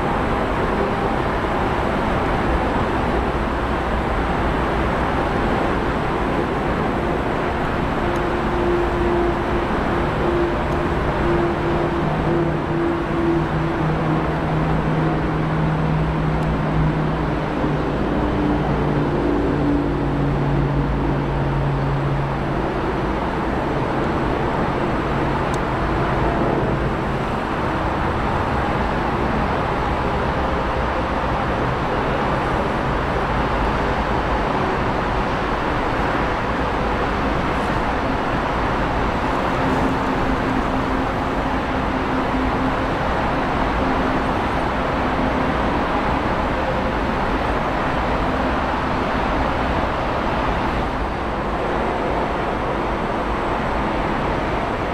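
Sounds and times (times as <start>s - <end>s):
jet engine noise: 0.0s - 54.9s.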